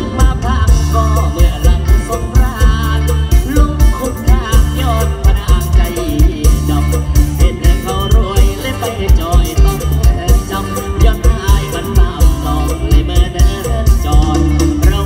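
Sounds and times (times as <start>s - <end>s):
bass: 0.0s - 15.0s
heavy kick drum beat: 0.0s - 15.0s
man singing ornamented lines: 0.0s - 15.0s.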